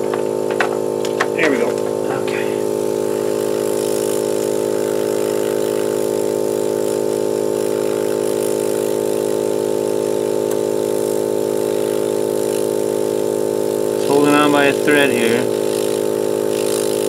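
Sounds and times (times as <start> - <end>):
hot-air blower humming: 0.0 - 17.0.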